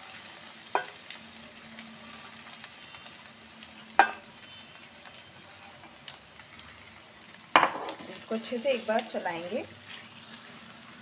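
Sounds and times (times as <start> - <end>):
oil and spices sizzling: 0.0 - 11.0.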